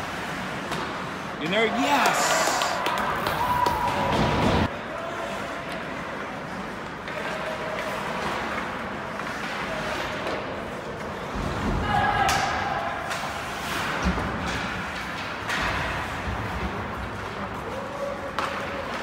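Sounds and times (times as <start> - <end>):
skates and sticks on ice: 0.0 - 19.0.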